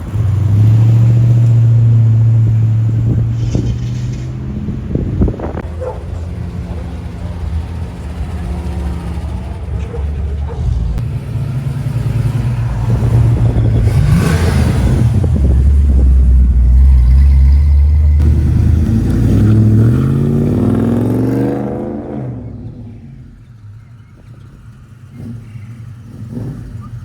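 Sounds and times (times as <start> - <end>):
car engine driving by: 0.0 - 27.0.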